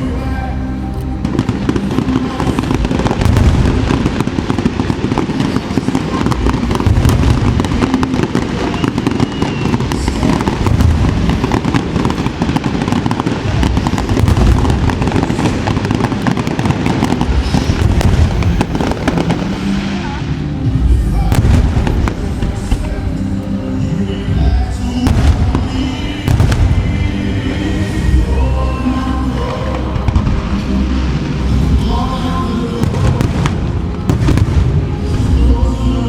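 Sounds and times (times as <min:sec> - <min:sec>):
fireworks crackling: 0:00.0 - 0:36.0.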